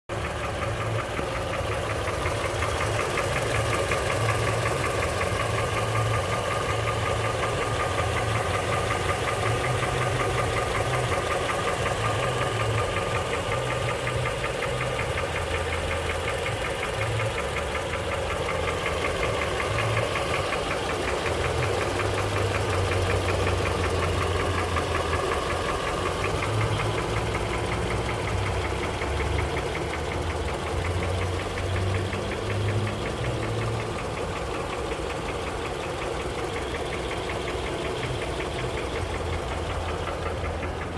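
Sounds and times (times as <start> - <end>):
car engine knocking: 0.0 - 40.9.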